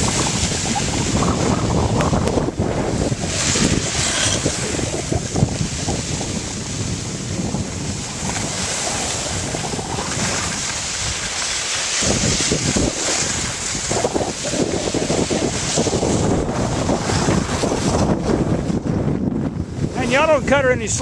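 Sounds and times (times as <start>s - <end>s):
skis sliding over snow: 0.0s - 18.4s
wind buffeting microphone: 0.0s - 21.0s.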